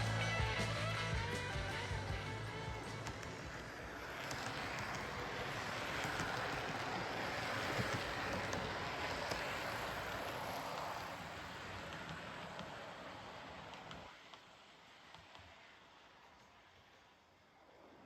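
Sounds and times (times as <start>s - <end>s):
model train rolling: 0.0s - 18.0s.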